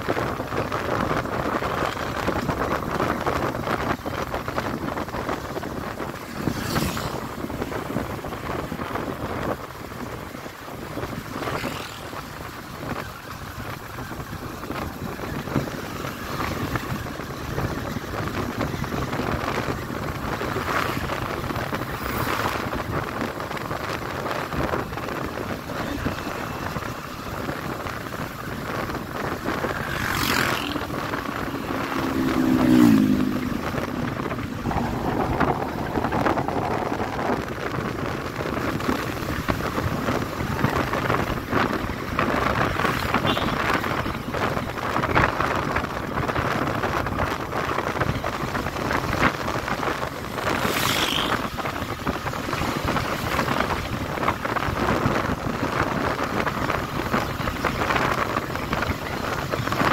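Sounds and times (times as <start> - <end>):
motorcycle engine running: 0.0 - 59.9
wind buffeting microphone: 0.0 - 59.9
passing vehicle engine: 0.1 - 59.9.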